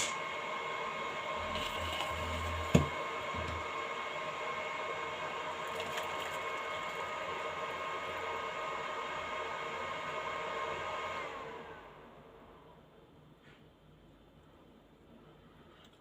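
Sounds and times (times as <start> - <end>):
whirring hum: 0.0 - 16.0.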